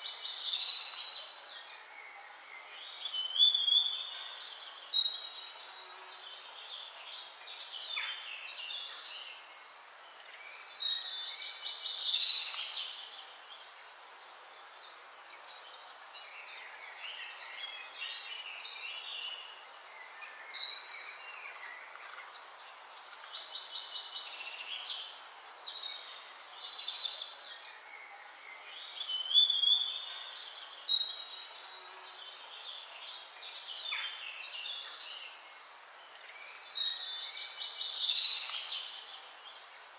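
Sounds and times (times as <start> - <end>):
birds chirping and trilling: 0.0 - 39.9
steady high hiss: 0.0 - 39.9.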